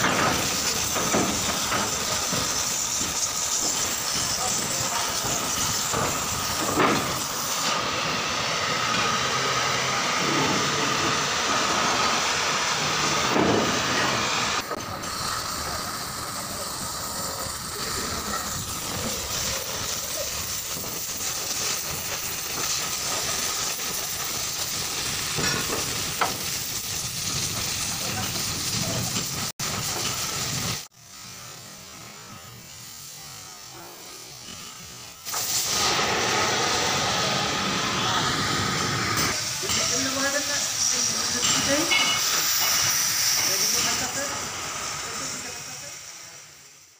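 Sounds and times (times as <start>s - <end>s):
cutting torch hissing: 0.0s - 46.9s.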